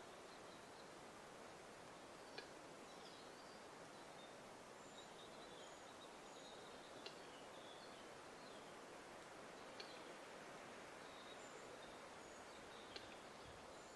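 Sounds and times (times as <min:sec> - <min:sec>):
faint steady hiss: 0:00.0 - 0:13.9.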